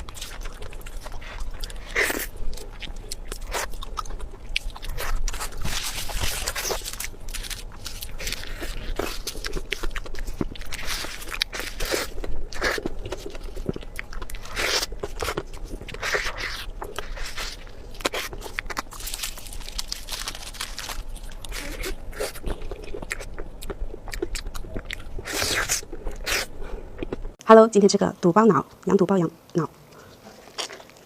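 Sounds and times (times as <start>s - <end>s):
crunchy bites and chewing: 0.0s - 27.4s, 30.3s - 31.0s.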